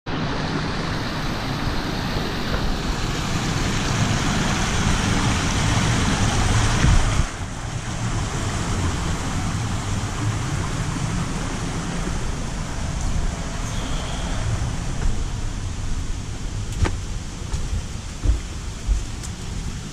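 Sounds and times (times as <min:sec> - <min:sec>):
stream rushing over rocks: 0:00.1 - 0:19.9
wind buffeting microphone: 0:01.0 - 0:19.9.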